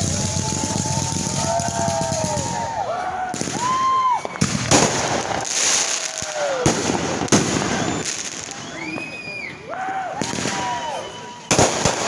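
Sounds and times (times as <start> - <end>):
firework bangs: 0.0 - 12.0
firework crackling: 0.0 - 12.0
whistling firework shells: 0.0 - 12.0.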